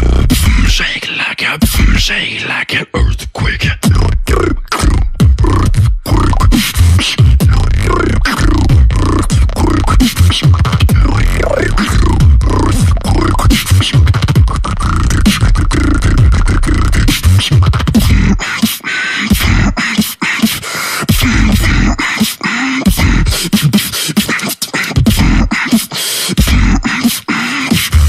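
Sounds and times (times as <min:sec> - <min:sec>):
person humming: 0:00.0 - 0:00.8, 0:03.5 - 0:28.0
beatboxing: 0:00.0 - 0:28.0.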